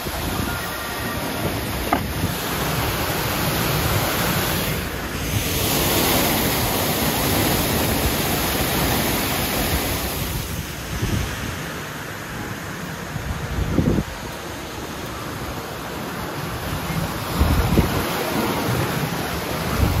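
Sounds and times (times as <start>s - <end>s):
rushing splashing water: 0.0s - 20.0s.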